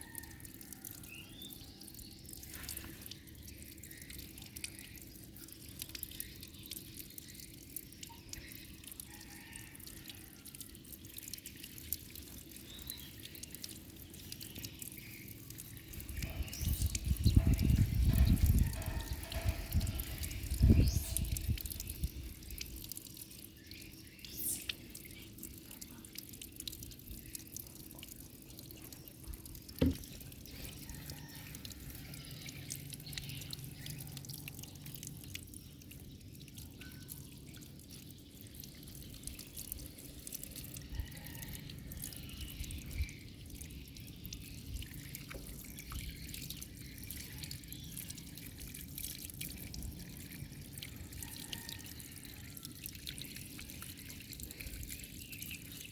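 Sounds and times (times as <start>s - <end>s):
water dripping and splashing: 0.0s - 55.9s.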